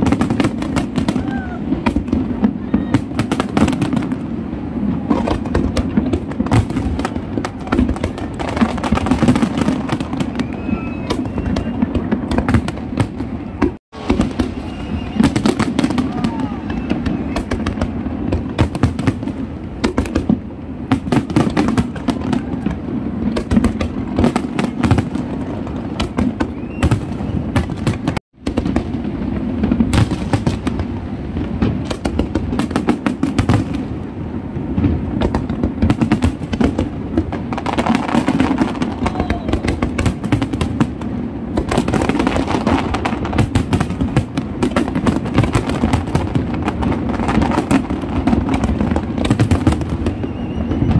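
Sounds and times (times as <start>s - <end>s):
fireworks crackling: 0.0s - 50.9s.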